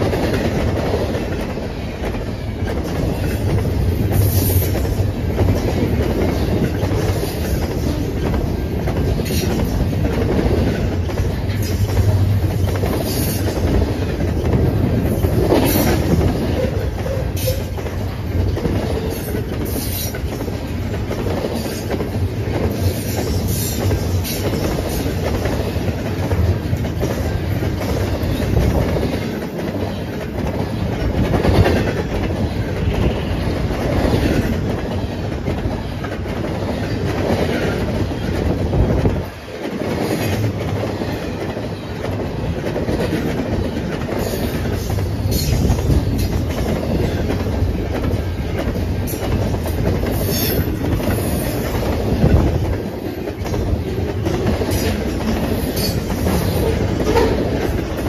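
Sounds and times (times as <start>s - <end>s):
train rumble: 0.0s - 58.0s
wheels clacking over rails: 0.0s - 58.0s.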